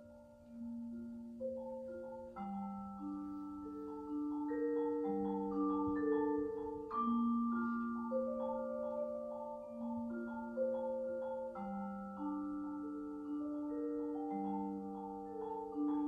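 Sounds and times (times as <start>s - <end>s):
vibraphone played with mallets: 0.0s - 16.0s.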